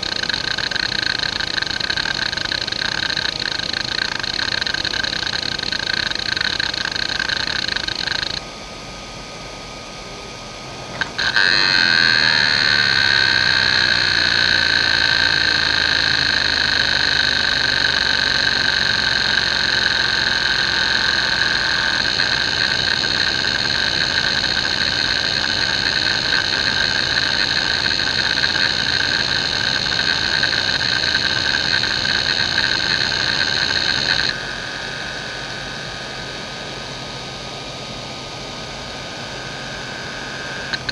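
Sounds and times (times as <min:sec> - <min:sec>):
hard drive click and rising tone: 0:00.0 - 0:08.5, 0:10.9 - 0:40.9
hard drive seeking chatter: 0:00.0 - 0:08.5, 0:10.0 - 0:40.9.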